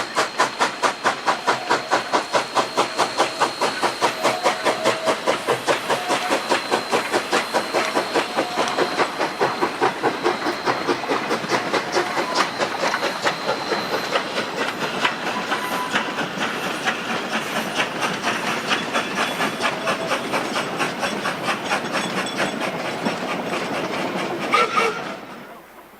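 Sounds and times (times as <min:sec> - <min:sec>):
steam locomotive exhaust chuffing: 0:00.0 - 0:25.9.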